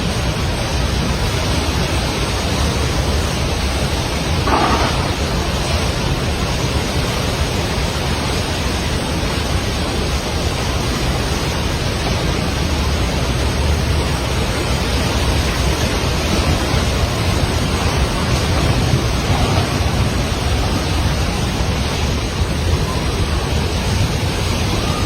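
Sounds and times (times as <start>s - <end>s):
rushing floodwater: 0.0s - 25.0s.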